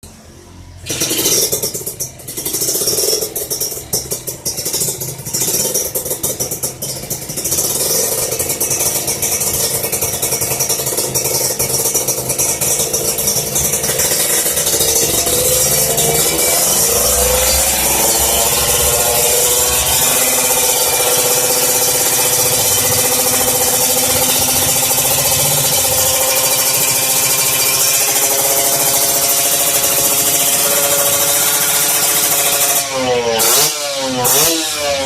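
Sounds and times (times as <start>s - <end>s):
engine revving blips: 0.0s - 35.0s
two-stroke motorcycle engine idling: 0.1s - 35.0s.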